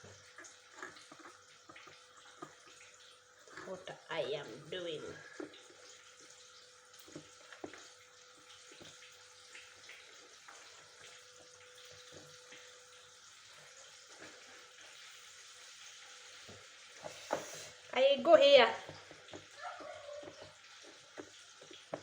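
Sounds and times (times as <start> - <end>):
chicken frying in oil: 0.0 - 22.0.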